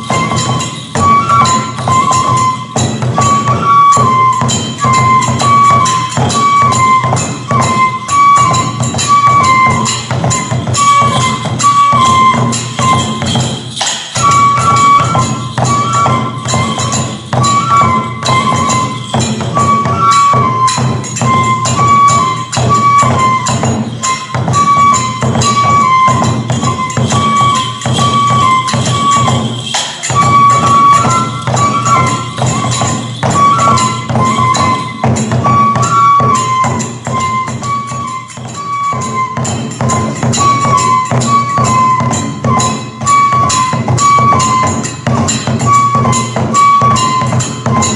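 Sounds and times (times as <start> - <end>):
fast steady drumming: 0.0 - 47.9
metallic hand cymbals jangling: 0.0 - 47.9
transverse flute melody: 0.0 - 47.9.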